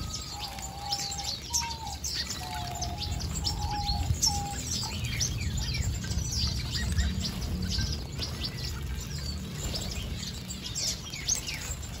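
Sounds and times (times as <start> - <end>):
finches chirping and twittering: 0.0 - 12.0
low bird notes: 0.0 - 12.0
steady low rumble: 2.0 - 12.0.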